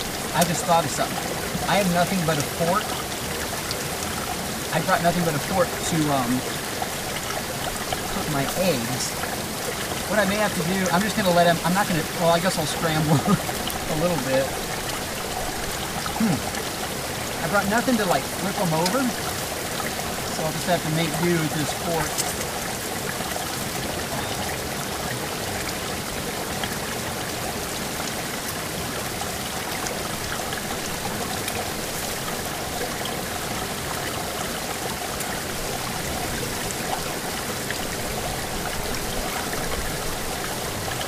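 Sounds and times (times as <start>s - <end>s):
fast-flowing river rushing: 0.0s - 41.0s.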